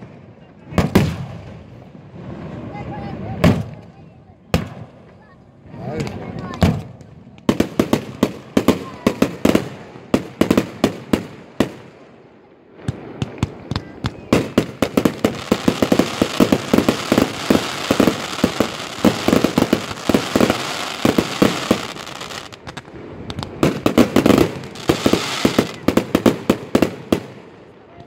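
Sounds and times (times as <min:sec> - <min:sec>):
fireworks crackling: 0:00.0 - 0:27.9.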